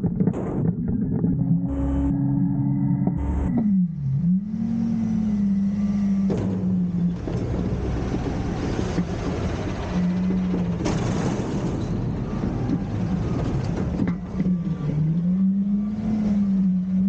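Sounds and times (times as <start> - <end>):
rough rumbling noise: 0.0 - 15.8
garbage truck engine humming: 1.4 - 17.0.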